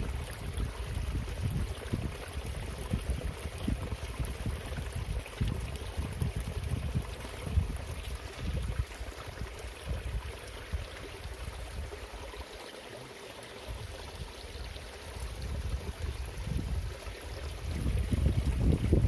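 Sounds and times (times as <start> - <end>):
wind rumbling on microphone: 0.0 - 12.2, 13.7 - 19.0
water flowing in a ditch: 0.0 - 19.0.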